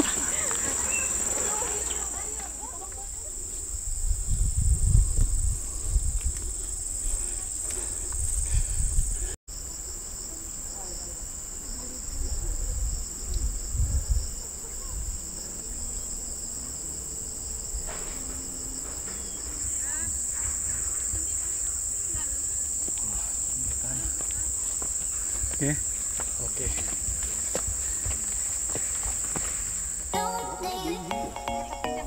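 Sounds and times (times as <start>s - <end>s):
insects buzzing trill: 0.0s - 32.0s
pulsing insect call: 0.0s - 32.0s.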